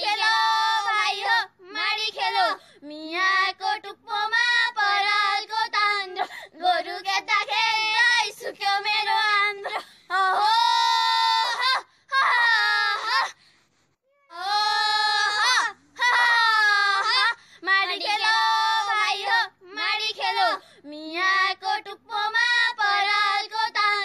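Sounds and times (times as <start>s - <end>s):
woman singing unaccompanied: 0.0s - 10.9s, 14.3s - 24.0s.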